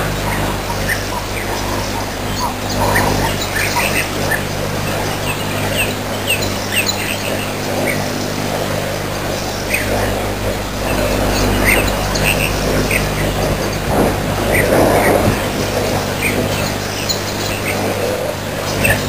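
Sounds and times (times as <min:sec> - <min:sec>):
birds chirping: 0:00.0 - 0:19.0
low hum and hiss: 0:00.0 - 0:19.0.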